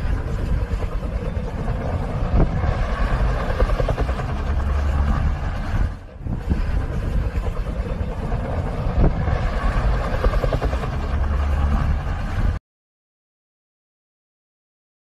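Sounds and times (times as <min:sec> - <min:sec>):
distant helicopter engine and rotor: 0:00.0 - 0:12.6
wind rumble on microphone: 0:00.0 - 0:12.6.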